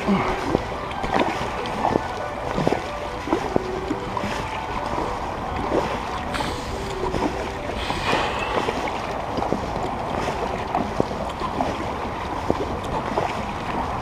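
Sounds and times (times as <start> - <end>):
paddle splashes and knocks: 0.0 - 14.0
wind noise on microphone: 0.0 - 14.0.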